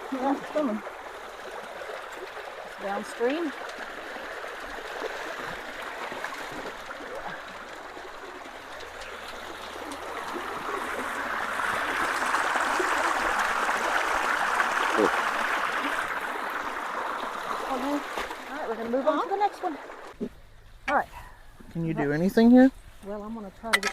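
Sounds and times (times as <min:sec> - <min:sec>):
stream water rushing: 0:00.0 - 0:20.2.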